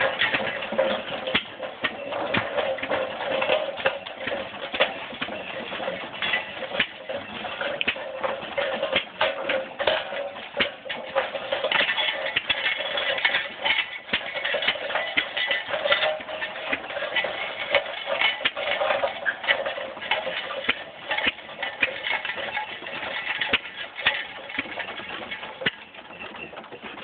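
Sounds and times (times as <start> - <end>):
stationary engine knocking: 0.0 - 27.0.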